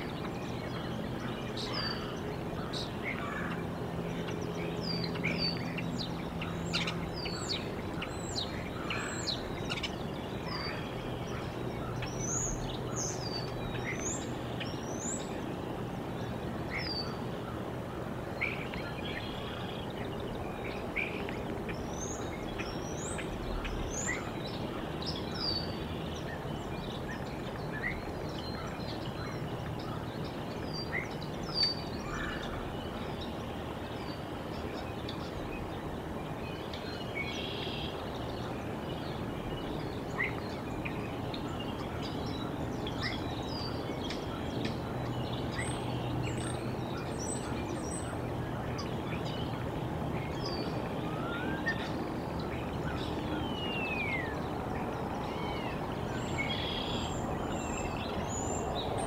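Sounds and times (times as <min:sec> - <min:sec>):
outdoor background rush: 0:00.0 - 0:59.0
small songbirds chirping: 0:00.0 - 0:59.0.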